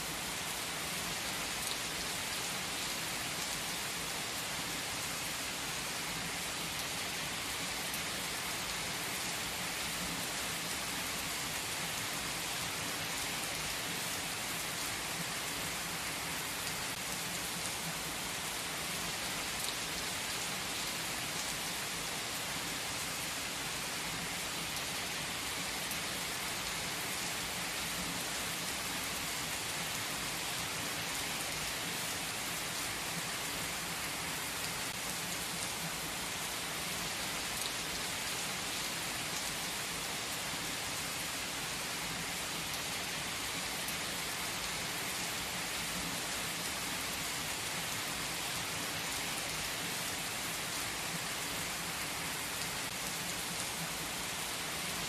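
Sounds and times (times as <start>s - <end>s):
heavy rain on asphalt: 0.0s - 55.0s.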